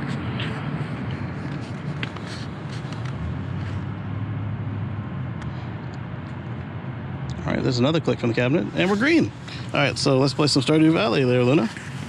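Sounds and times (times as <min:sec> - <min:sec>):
traffic and machinery rumble: 0:00.0 - 0:12.0.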